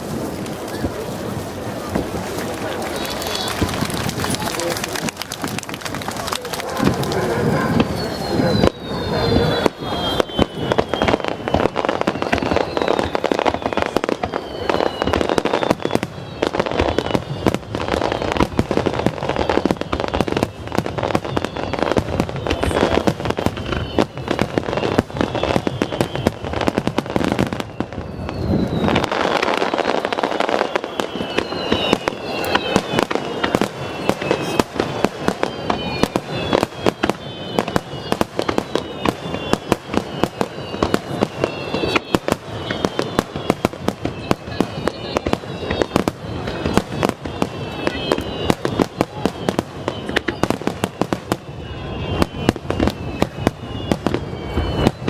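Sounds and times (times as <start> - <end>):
fireworks bursting: 0.0 - 55.0
fireworks whistling: 0.0 - 55.0.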